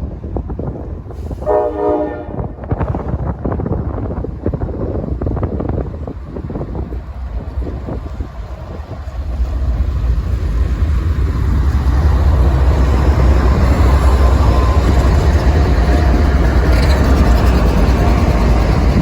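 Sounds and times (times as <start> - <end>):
diesel locomotives rumbling: 0.0 - 19.0.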